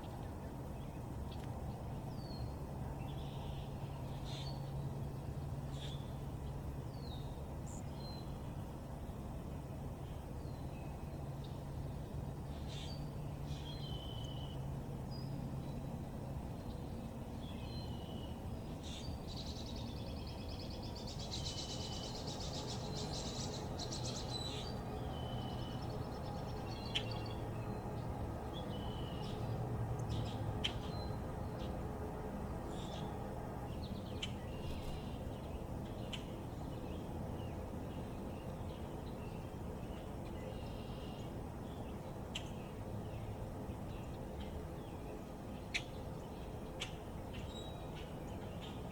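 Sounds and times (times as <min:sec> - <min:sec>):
songbirds chirping: 0:00.0 - 0:09.4, 0:10.0 - 0:48.9.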